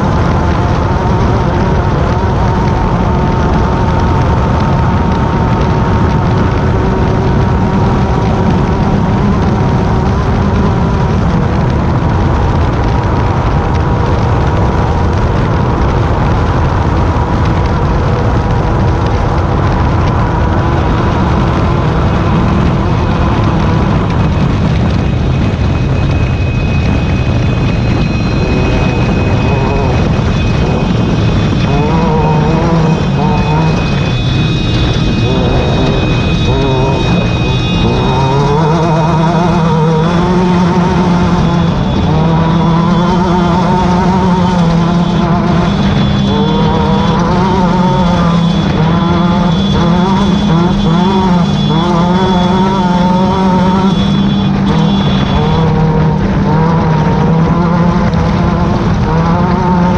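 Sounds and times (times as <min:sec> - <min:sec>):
race car engine: 0:00.0 - 0:59.9
road noise: 0:00.0 - 0:59.9.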